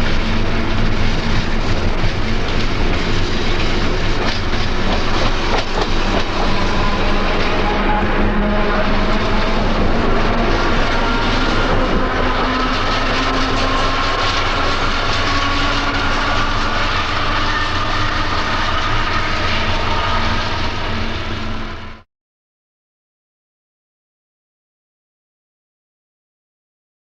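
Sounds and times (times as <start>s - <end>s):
electric train rumbling: 0.0s - 22.1s.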